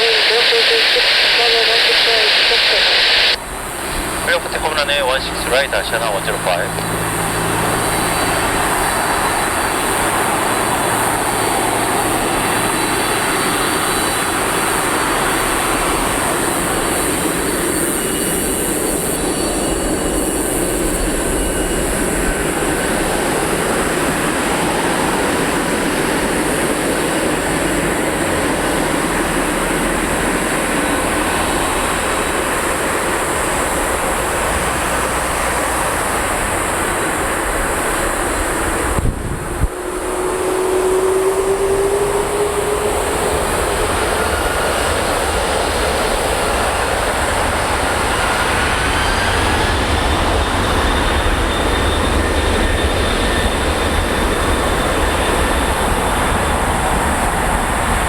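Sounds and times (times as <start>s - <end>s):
jet engines roaring at takeoff: 0.0s - 58.0s.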